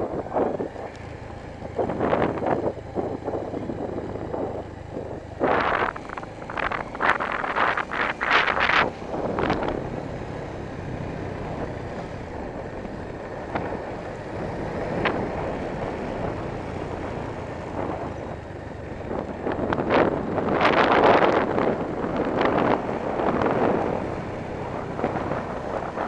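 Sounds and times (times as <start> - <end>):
motorcycle running: 0.0 - 26.0
road noise: 0.0 - 26.0
wind buffeting microphone: 0.0 - 26.0.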